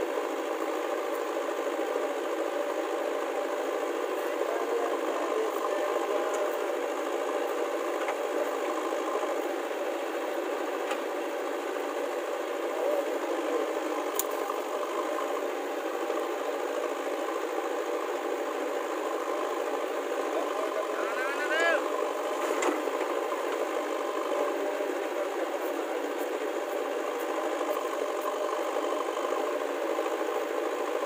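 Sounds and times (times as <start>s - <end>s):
diesel engines running with rattle: 0.0s - 31.0s.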